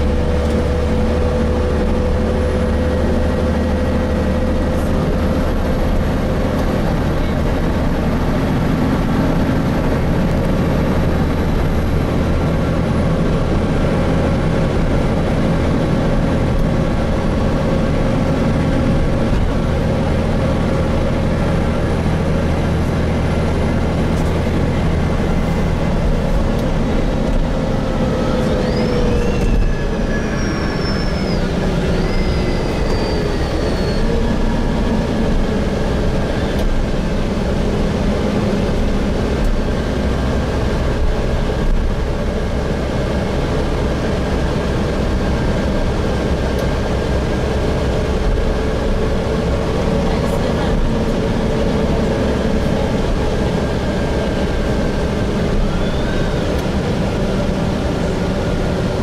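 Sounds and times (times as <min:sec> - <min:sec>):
bus engine drone: 0:00.0 - 0:59.0
road noise: 0:00.0 - 0:59.0
transmission whine: 0:00.0 - 0:59.0.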